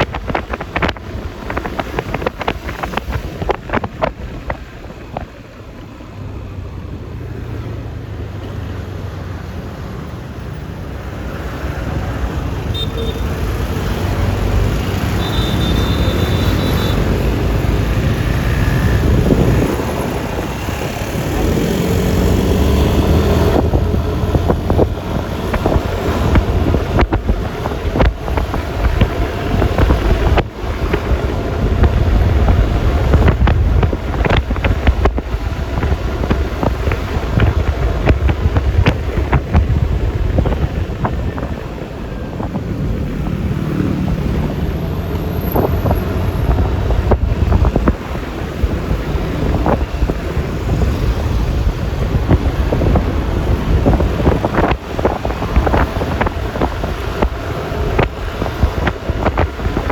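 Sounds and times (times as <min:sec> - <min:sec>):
wind buffeting microphone: 0:00.0 - 0:06.2, 0:16.0 - 0:59.9
tyre and road noise: 0:00.0 - 0:59.9
scooter engine: 0:11.6 - 0:59.9.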